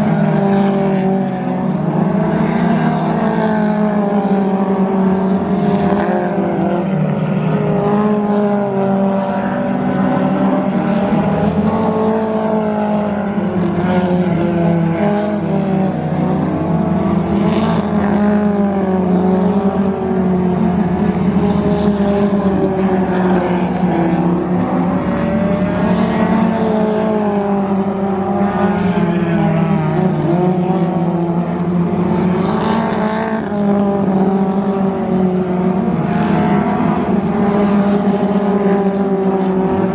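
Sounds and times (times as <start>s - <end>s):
race car engines: 0.0s - 39.9s.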